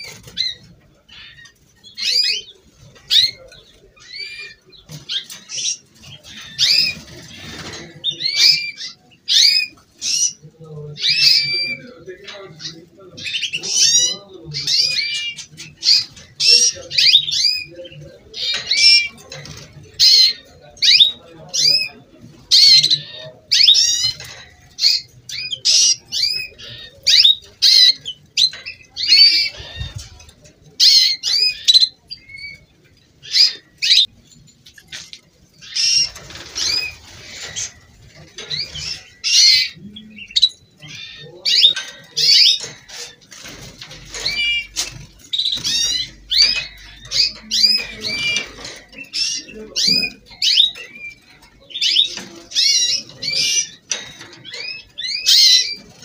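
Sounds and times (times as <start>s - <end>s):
canaries singing: 0.0s - 56.0s.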